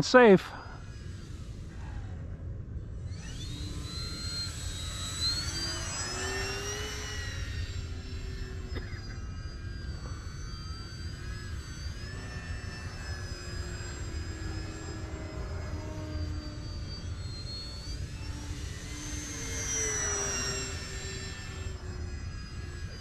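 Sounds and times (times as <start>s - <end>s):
model airplane motor whining: 0.0s - 23.0s
second motor whine: 0.0s - 23.0s.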